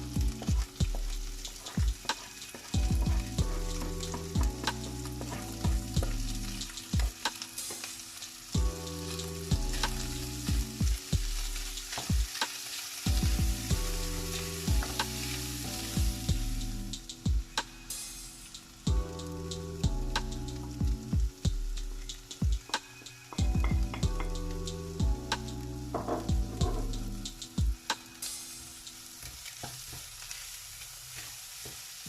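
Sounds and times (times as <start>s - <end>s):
background music with bass: 0.0s - 7.7s, 8.6s - 12.3s, 13.1s - 29.0s
chicken sizzling in a pan: 0.0s - 32.0s.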